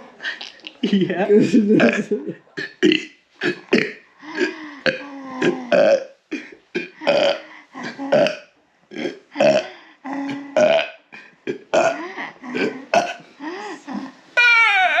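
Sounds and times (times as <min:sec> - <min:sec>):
woman burping: 0:00.8 - 0:13.2.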